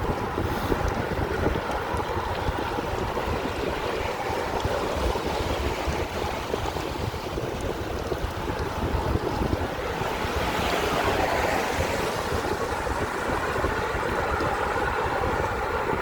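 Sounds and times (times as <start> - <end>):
steady low rushing noise: 0.0 - 16.0.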